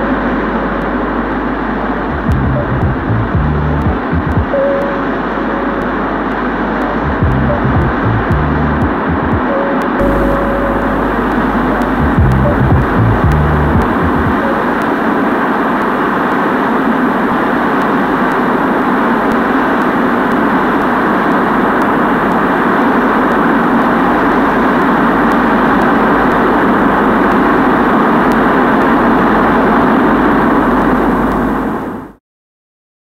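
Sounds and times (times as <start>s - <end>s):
dense electronic noise drone: 0.0s - 32.2s.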